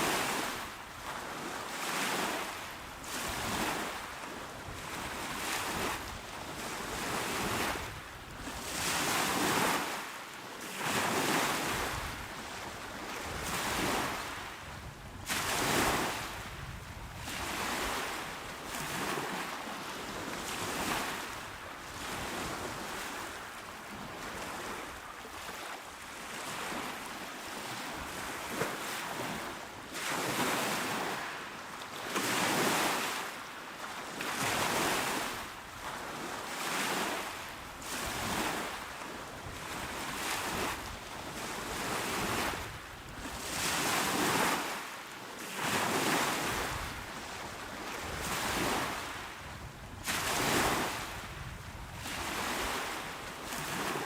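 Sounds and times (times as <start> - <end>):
small waves washing onto shore: 0.0 - 54.0.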